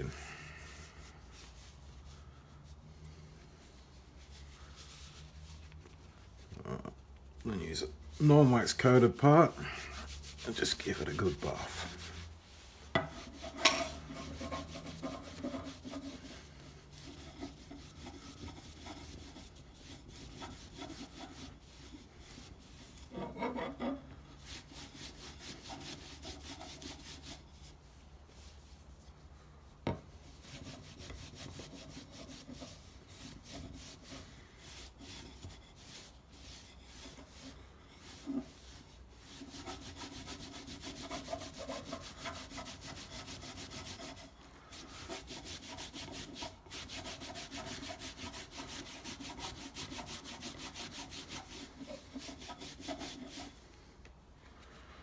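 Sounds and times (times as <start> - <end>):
cloth rubbing wooden handle: 0.0 - 53.9.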